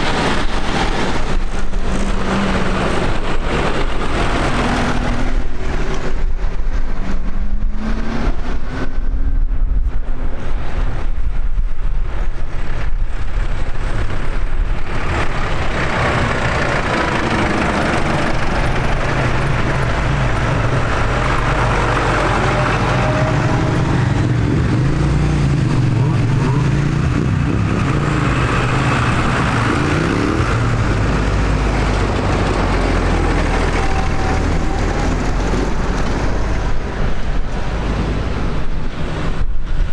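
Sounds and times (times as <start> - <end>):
tractor engines running: 0.0 - 8.8, 13.1 - 39.5.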